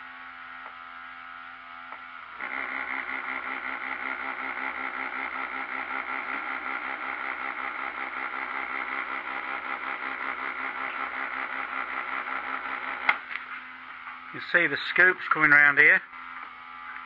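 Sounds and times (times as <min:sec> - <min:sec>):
small motor whirring with pulsing: 0:00.0 - 0:17.0.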